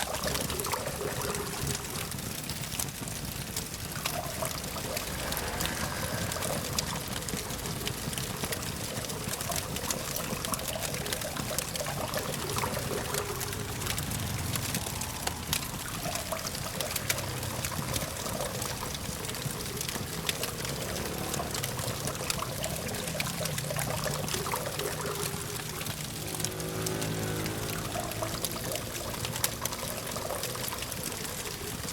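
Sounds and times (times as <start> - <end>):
campfire crackling and popping: 0.0 - 31.9
distant traffic hum: 0.0 - 31.9.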